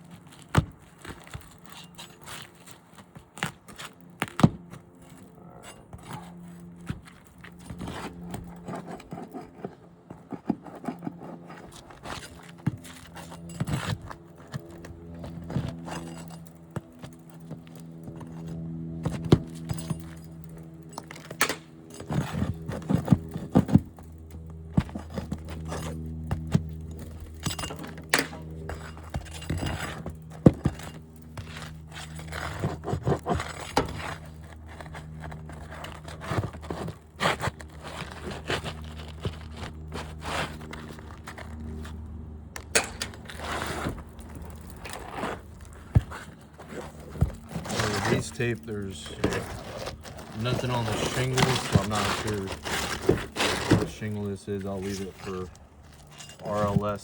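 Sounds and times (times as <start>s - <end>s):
shingles scraping and crunching: 0.0s - 57.0s
steady low hum: 0.0s - 57.0s.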